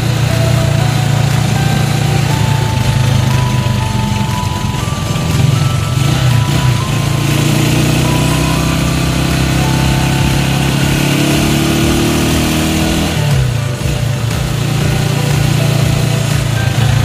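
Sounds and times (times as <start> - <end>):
truck passing: 0.0 - 17.0
vehicle engine driving: 0.0 - 17.0.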